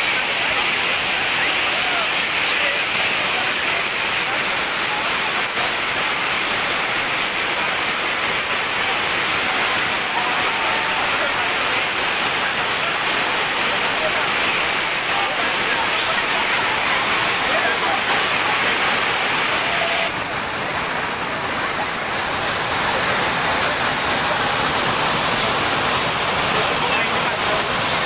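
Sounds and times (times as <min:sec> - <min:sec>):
crowd voices: 0:00.0 - 0:28.0
waterfall rushing: 0:00.0 - 0:28.0.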